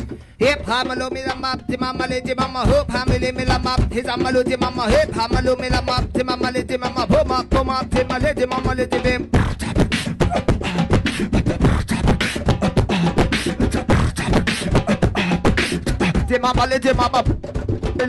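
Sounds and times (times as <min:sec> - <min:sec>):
beatboxing into microphone: 0:00.0 - 0:18.0.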